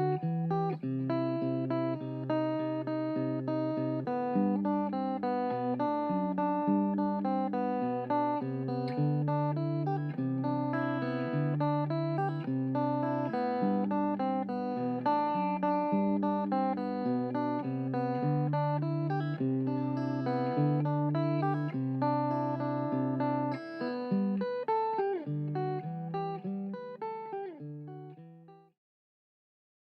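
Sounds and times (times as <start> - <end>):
acoustic guitar music: 0.0 - 28.5.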